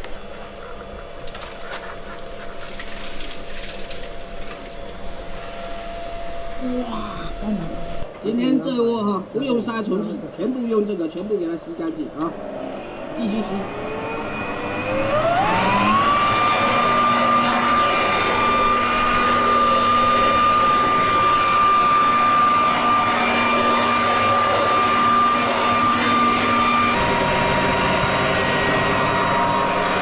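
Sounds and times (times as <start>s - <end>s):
vacuum cleaner whining: 0.0s - 8.1s, 11.9s - 30.0s.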